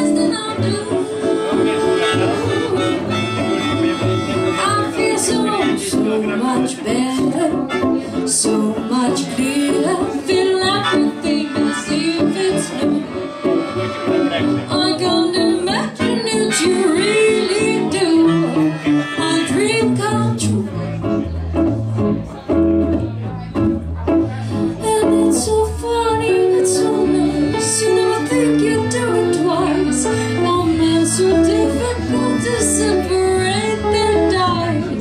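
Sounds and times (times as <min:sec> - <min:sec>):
woman singing: 0:00.0 - 0:03.4, 0:04.6 - 0:13.2, 0:14.7 - 0:21.0, 0:24.7 - 0:35.0
guitar: 0:00.0 - 0:35.0.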